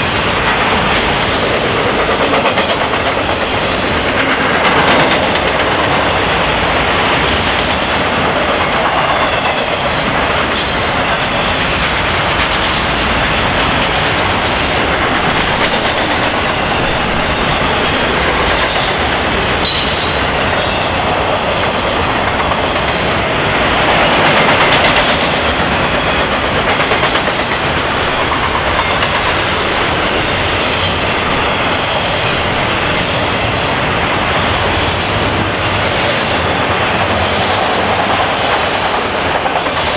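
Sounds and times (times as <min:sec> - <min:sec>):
freight train rumbling past: 0:00.0 - 0:39.9
wheels clattering on rails: 0:00.0 - 0:39.9.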